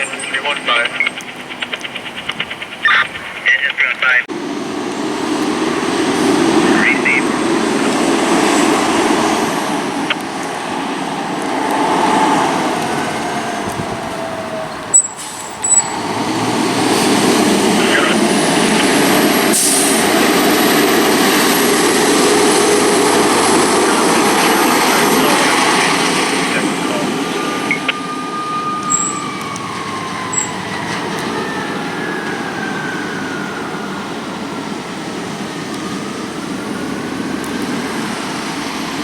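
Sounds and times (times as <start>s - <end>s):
fire truck engine running: 0.0s - 39.0s.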